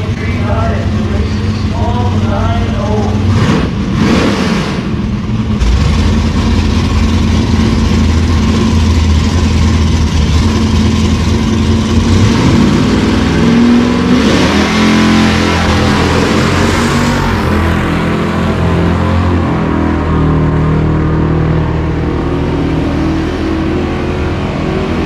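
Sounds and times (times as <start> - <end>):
drag car engines idling: 0.0 - 25.0.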